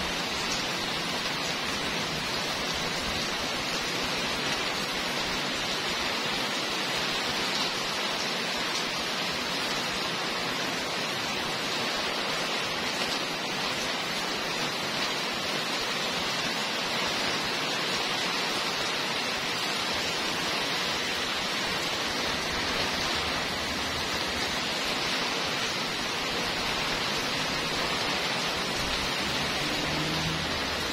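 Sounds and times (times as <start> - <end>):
heavy rain on paving: 0.0 - 30.9.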